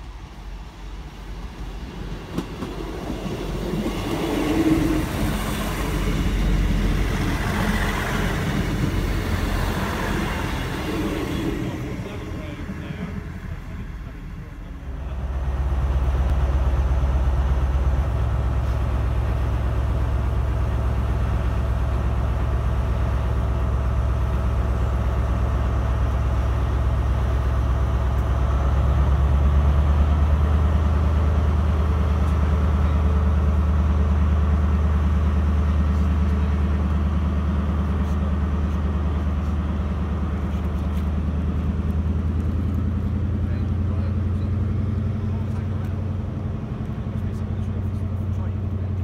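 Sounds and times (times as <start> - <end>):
train diesel engine drone: 0.0 - 49.0.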